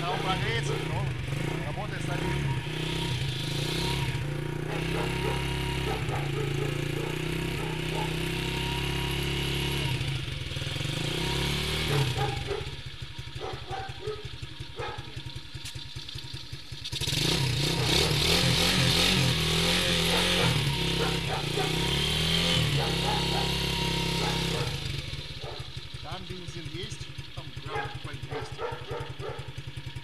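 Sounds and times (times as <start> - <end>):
atv engine putter: 0.0 - 30.0.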